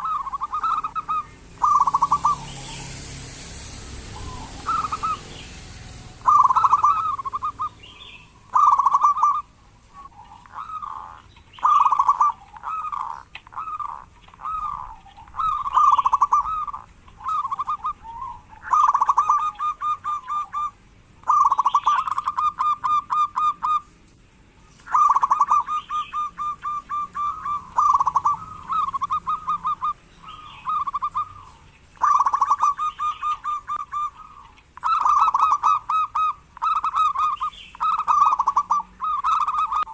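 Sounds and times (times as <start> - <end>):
dove cooing: 0.0 - 3.2, 3.8 - 23.9, 24.9 - 39.9.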